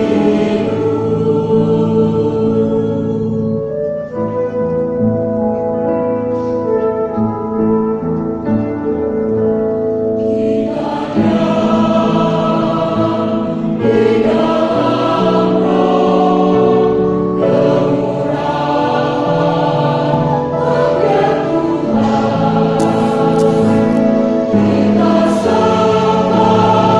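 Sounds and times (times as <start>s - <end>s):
choir singing a hymn: 0.0s - 5.0s, 10.1s - 26.9s.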